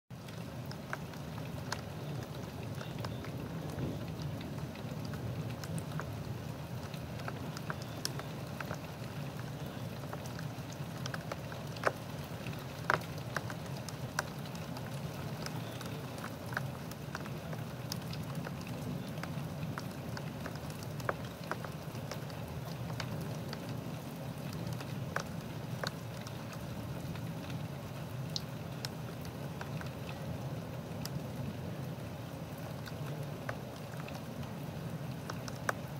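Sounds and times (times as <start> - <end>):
steady rain: 0.1 - 35.9.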